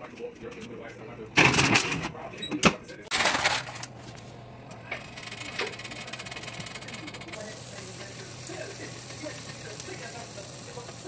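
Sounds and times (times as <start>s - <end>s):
oven humming: 0.4s - 11.0s.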